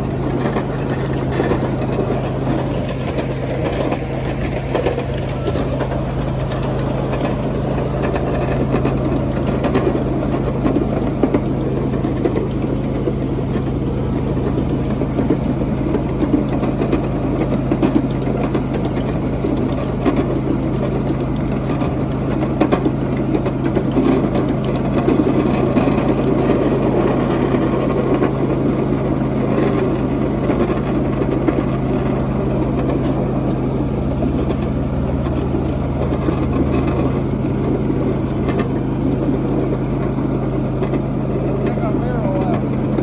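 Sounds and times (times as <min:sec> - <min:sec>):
miniature train engine drone: 0:00.0 - 0:43.0.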